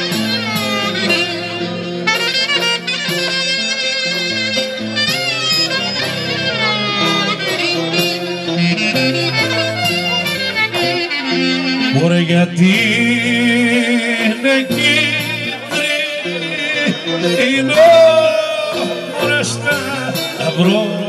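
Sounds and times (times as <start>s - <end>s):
clarinet playing ornamented melody: 0.0s - 21.0s
folk band accompaniment: 0.0s - 21.0s.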